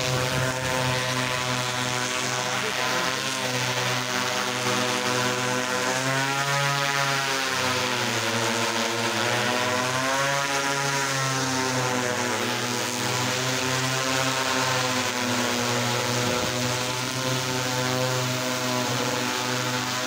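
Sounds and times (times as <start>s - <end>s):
drone propellers buzzing: 0.0s - 20.0s.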